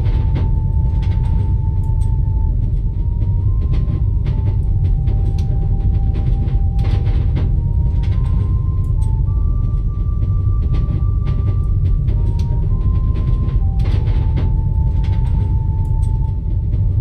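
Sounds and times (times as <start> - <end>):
slow melody of high notes: 0.0 - 17.0
train carriage rumble: 0.0 - 17.0.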